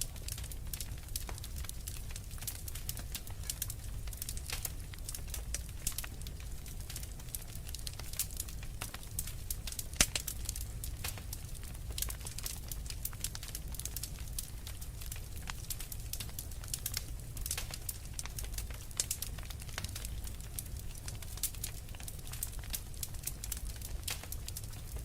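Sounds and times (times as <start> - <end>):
fire crackling in fireplace: 0.0 - 25.0.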